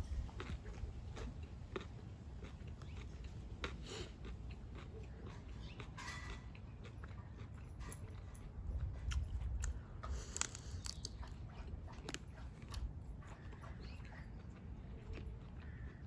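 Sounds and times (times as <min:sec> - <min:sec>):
person chewing shrimp: 0:00.1 - 0:16.0.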